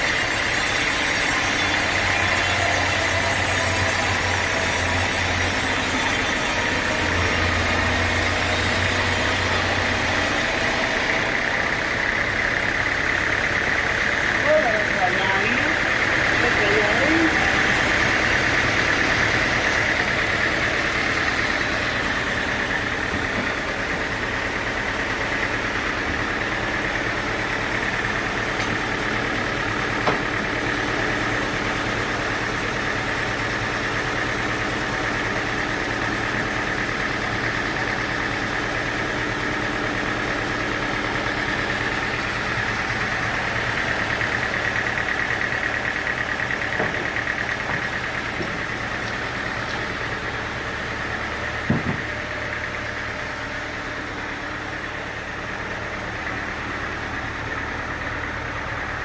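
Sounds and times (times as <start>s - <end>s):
sawmill machine drone: 0.0s - 59.0s.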